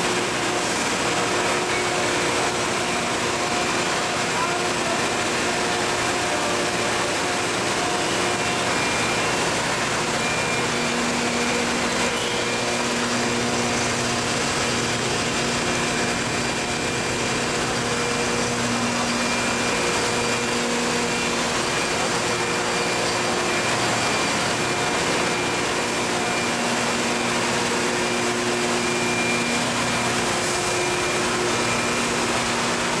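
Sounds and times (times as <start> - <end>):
machine whirring hiss: 0.0 - 33.0.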